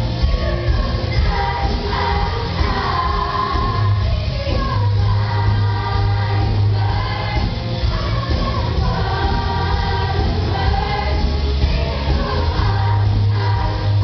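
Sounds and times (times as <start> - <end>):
bass-heavy musical accompaniment: 0.0 - 14.0
choir singing: 0.0 - 14.0.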